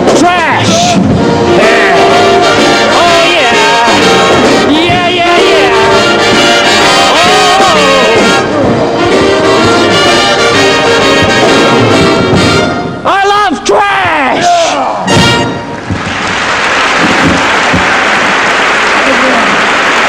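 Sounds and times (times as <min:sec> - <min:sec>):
upbeat brass band music: 0:00.0 - 0:13.6, 0:15.0 - 0:20.0.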